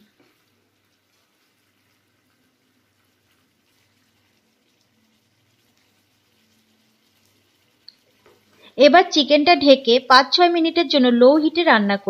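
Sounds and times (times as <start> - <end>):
faint steady hum and hiss: 0.0 - 12.0.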